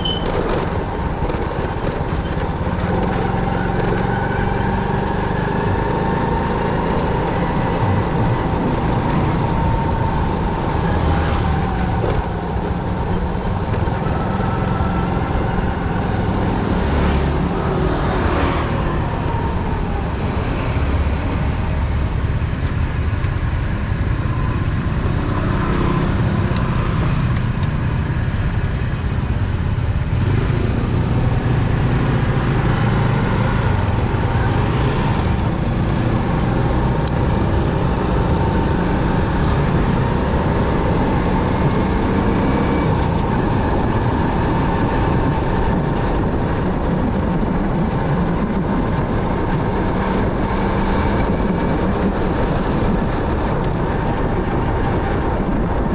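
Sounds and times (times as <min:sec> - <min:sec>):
motorcycle engine rumble: 0:00.0 - 0:55.9
road noise: 0:00.0 - 0:55.9.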